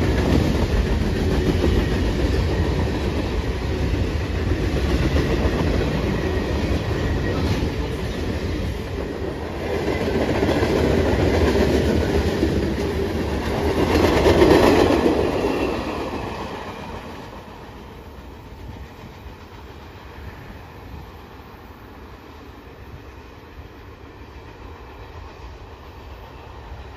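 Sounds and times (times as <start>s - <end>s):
freight train wheels rumbling: 0.0s - 26.9s.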